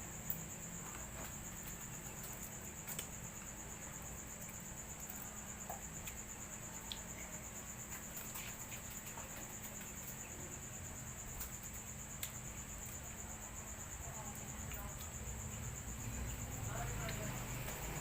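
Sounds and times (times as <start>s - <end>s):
cricket trilling: 0.0s - 18.0s.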